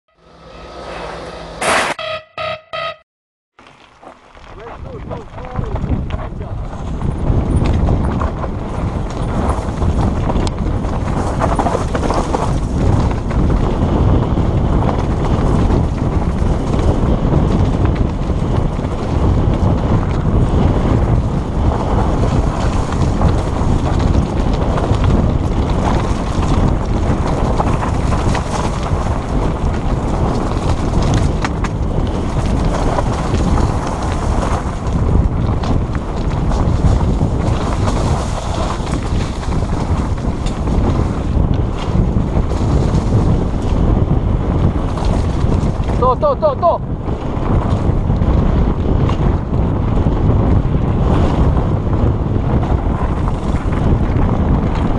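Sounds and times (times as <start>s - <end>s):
bike rattling over bumps: 3.6s - 54.9s
bike tyres on dirt and stones: 3.6s - 54.9s
wind buffeting microphone: 4.2s - 54.9s.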